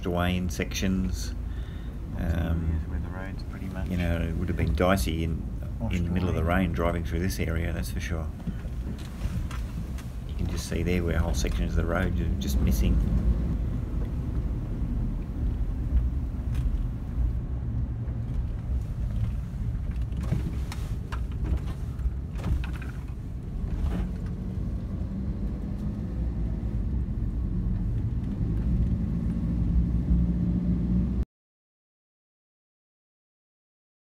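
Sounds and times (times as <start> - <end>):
vehicle engine and road rumble: 0.0 - 31.3.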